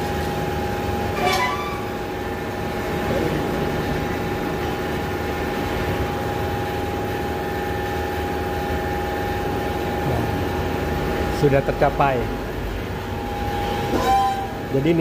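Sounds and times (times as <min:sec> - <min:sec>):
wheel balancing machine humming: 0:00.0 - 0:15.0.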